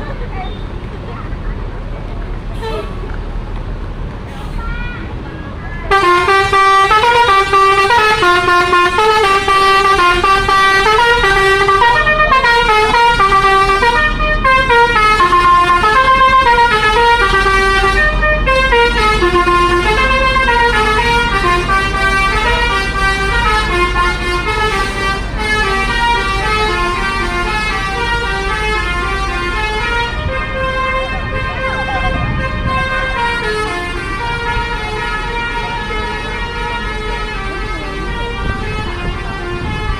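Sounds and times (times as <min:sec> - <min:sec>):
multi-tone air horn tune: 0:05.9 - 0:39.9.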